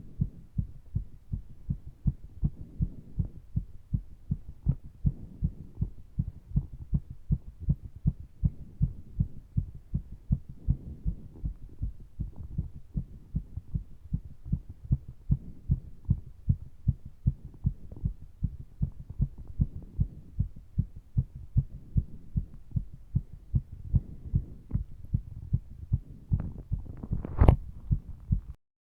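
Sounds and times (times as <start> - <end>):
faint breath noise: 0.0 - 16.6, 17.2 - 28.5
heart pounding: 0.0 - 28.6.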